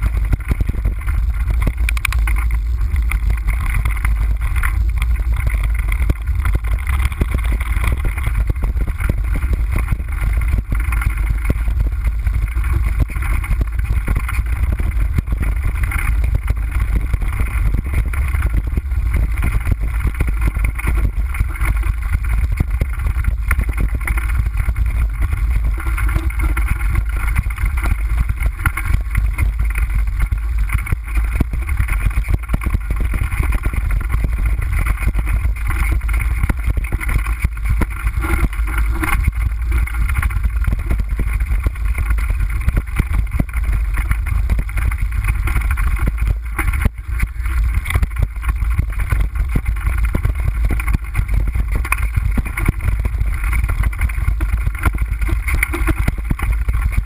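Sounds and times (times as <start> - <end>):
bike rattling over rocky trail: 0.0 - 57.0
wind rumble on microphone: 0.0 - 57.0.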